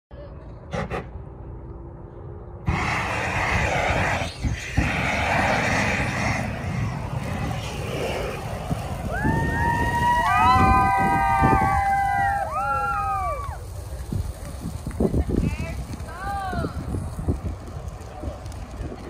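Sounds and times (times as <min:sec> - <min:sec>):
fire rushing hiss: 0:02.6 - 0:19.0.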